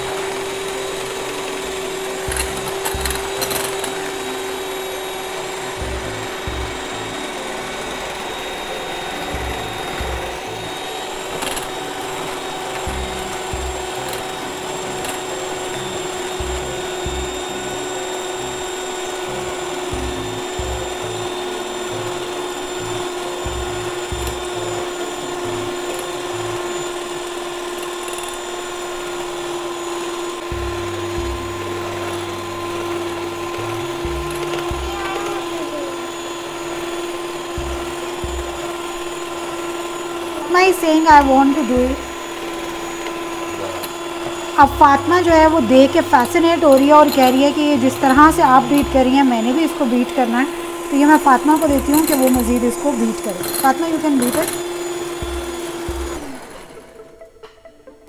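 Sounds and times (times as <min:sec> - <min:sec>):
electric hand mixer whine: 0:00.0 - 0:57.5.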